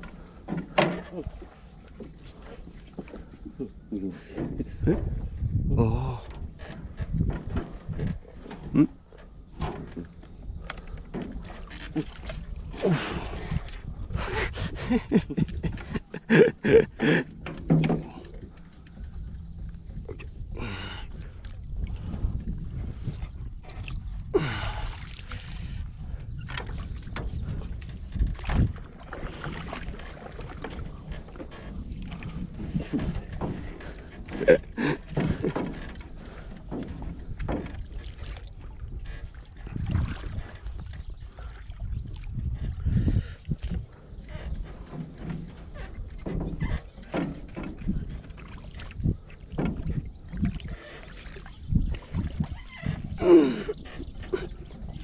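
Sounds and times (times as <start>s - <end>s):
water splashing beside boat: 0.0s - 55.0s
wind rumbling on microphone: 0.0s - 55.0s.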